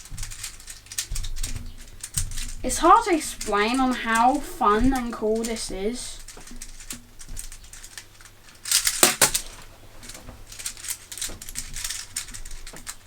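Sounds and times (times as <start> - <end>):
fidget toy clicking and clacking: 0.0 - 13.0.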